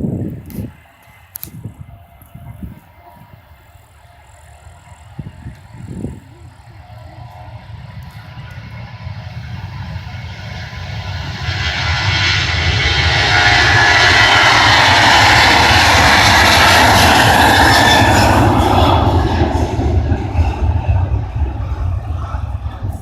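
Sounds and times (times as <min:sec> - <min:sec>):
jet engines at takeoff thrust: 0:00.0 - 0:23.0.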